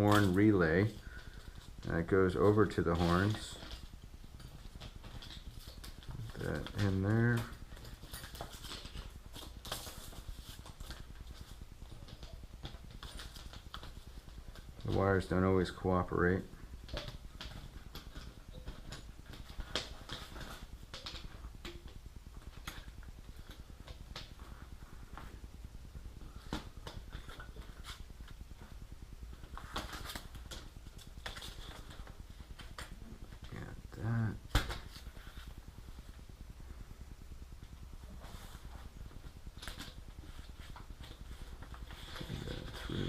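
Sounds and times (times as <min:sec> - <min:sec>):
wires tapping and clicking: 0:00.0 - 0:15.6, 0:16.5 - 0:36.3
steady low hum: 0:00.0 - 0:43.0.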